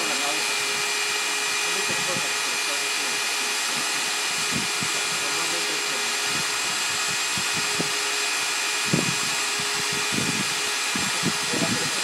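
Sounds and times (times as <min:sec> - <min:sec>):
core drill boring concrete: 0:00.0 - 0:12.0.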